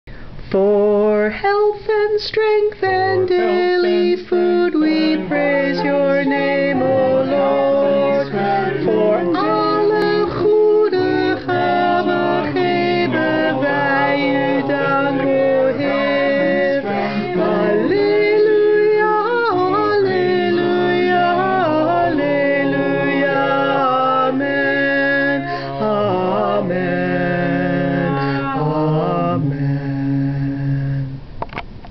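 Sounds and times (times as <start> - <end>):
mixed voices singing a round: 2.8 - 30.8.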